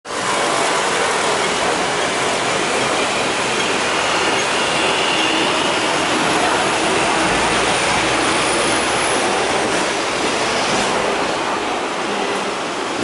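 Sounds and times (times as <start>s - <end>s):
tram wheels on rails: 0.1s - 13.0s.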